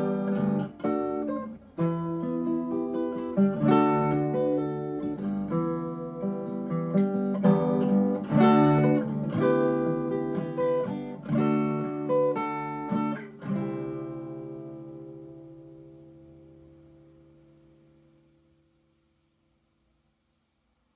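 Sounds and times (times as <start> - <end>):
acoustic guitar picking and strumming: 0.0 - 18.4.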